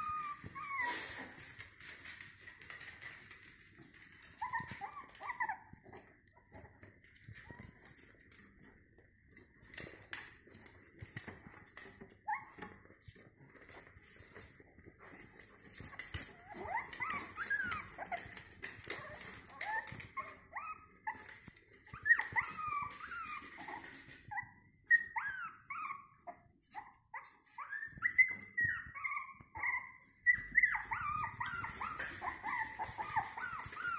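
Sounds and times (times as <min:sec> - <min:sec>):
puppies whining and whimpering: 0:00.0 - 0:02.0, 0:03.9 - 0:08.0, 0:11.7 - 0:33.9.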